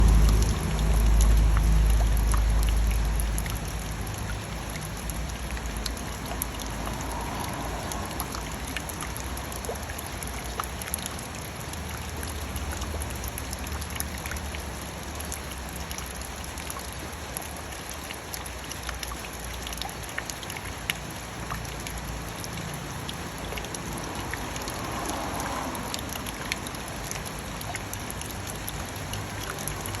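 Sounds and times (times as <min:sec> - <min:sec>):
drops ticking on a surface: 0:00.0 - 0:30.0
steady rain falling: 0:00.0 - 0:30.0.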